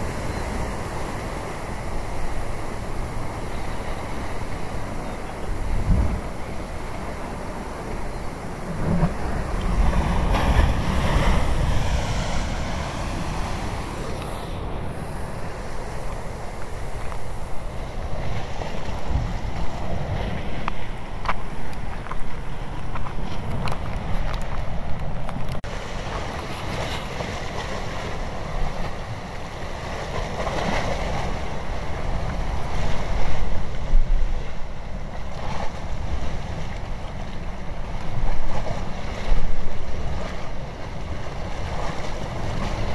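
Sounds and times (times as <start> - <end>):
waves breaking on a beach: 0.0 - 42.9
wind rumbling on microphone: 0.0 - 42.9.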